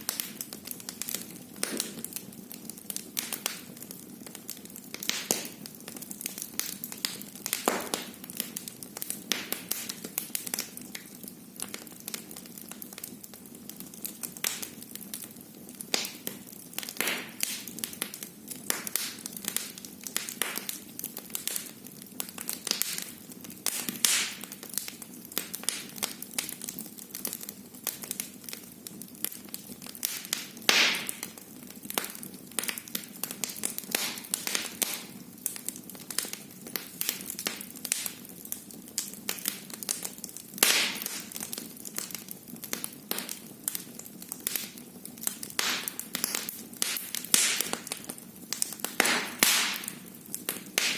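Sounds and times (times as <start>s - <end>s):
fireplace fire crackling: 0.0s - 50.9s.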